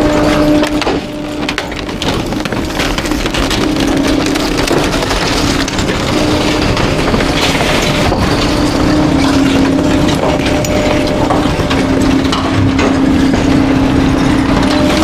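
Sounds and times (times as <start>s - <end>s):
garbage truck mechanical whine: 0.0s - 15.0s
items cracking: 0.0s - 15.0s.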